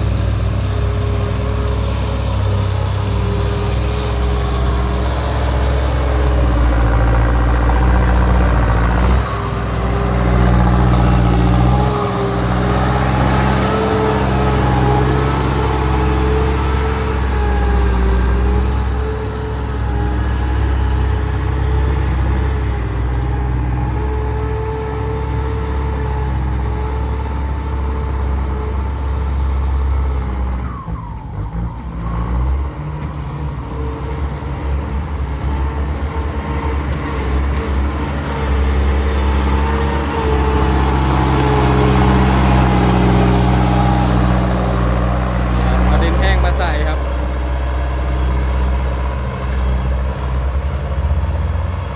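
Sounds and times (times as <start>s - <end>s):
truck diesel engine under load: 0.0s - 51.9s.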